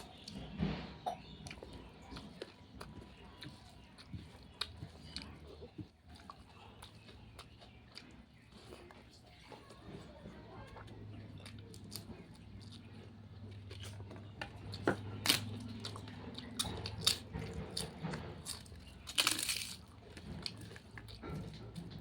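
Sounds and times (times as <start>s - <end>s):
person chewing: 0.0s - 9.8s, 10.7s - 22.0s.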